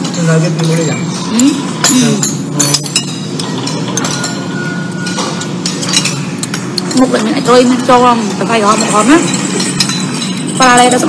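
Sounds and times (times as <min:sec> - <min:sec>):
low background hum: 0:00.0 - 0:11.0
metal spoon clinking on plate: 0:00.0 - 0:11.0.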